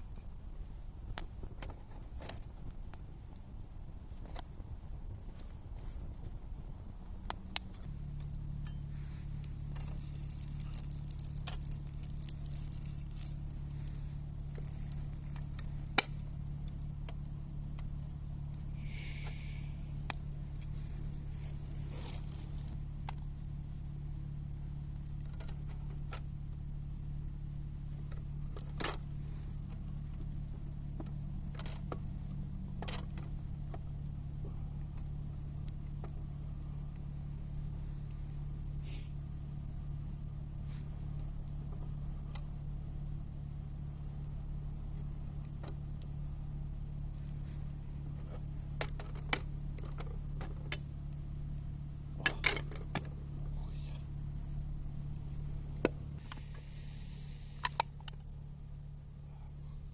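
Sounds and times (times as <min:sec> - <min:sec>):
engine idling hum: 0:00.0 - 0:59.9.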